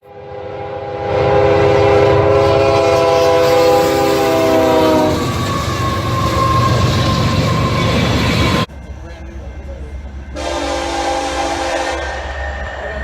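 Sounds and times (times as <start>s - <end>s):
locomotive air horn: 0.0s - 8.7s, 10.4s - 12.4s
passing train rumble: 0.0s - 13.0s.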